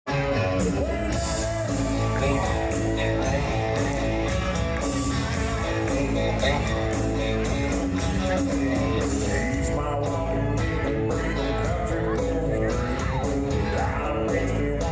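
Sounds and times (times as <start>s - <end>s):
bass guitar: 0.1s - 14.9s
drum kit beat: 0.1s - 14.9s
electric guitar: 0.1s - 14.9s.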